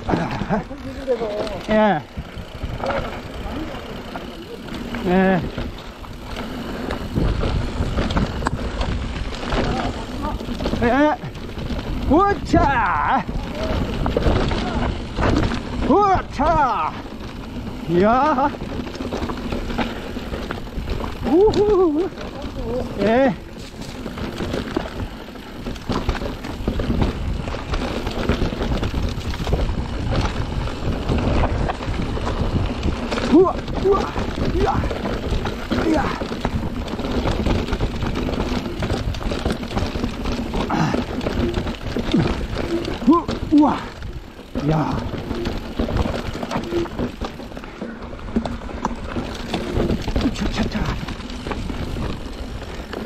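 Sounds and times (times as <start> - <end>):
bike knocks and rattles: 0.0 - 53.0
low tyre rumble: 0.0 - 53.0
wind buffeting microphone: 5.0 - 53.0.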